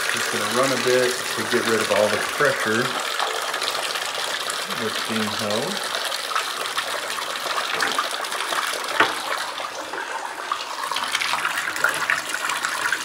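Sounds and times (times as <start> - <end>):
water splashing into bathtub: 0.0 - 13.0.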